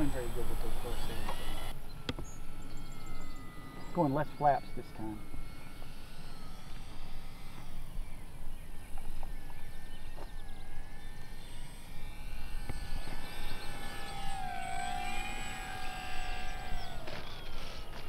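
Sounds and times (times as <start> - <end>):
electric motor and propeller whining: 0.0 - 18.0.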